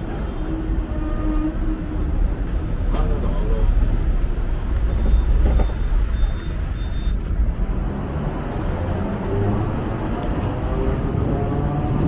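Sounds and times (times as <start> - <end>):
road traffic: 0.0 - 12.0
tram rumbling: 0.0 - 12.0.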